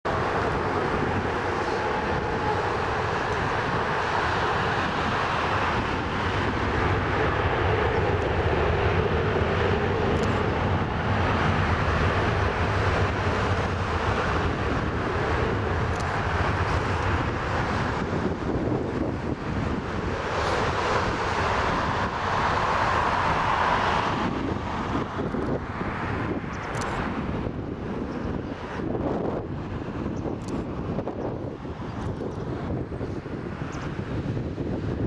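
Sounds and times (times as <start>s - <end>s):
jet engines at takeoff power: 0.0s - 35.0s.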